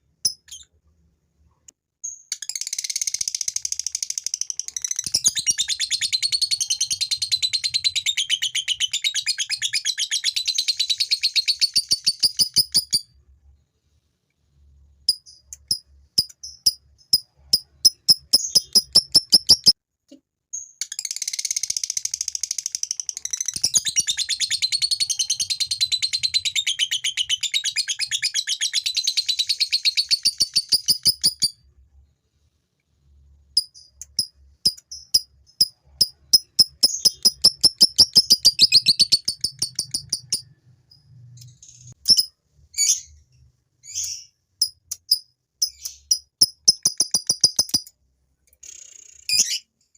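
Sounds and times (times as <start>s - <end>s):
lovebird chirping and trilling: 0.2s - 0.7s, 2.0s - 13.1s, 15.1s - 19.8s, 20.6s - 31.6s, 33.6s - 43.2s, 43.8s - 47.9s, 48.6s - 49.7s.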